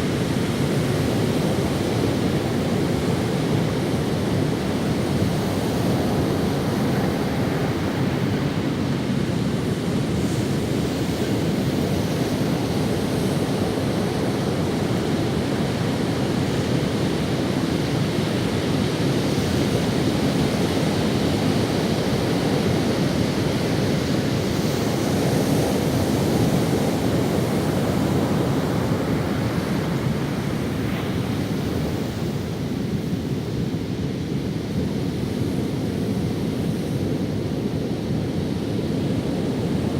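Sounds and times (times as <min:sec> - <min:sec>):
ocean waves washing on beach: 0:00.0 - 0:39.9
wind on microphone: 0:00.0 - 0:39.9.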